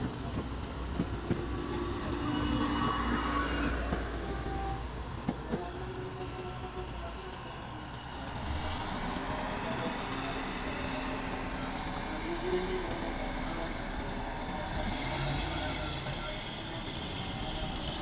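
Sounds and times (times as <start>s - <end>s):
train engine hum and rumble: 0.0s - 18.0s.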